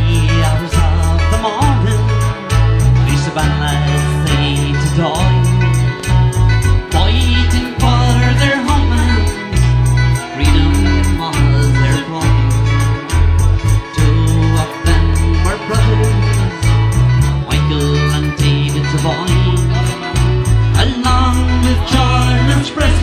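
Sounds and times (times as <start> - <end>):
bass line: 0.0 - 23.0
live band playing: 0.0 - 23.0
person singing: 0.0 - 23.0.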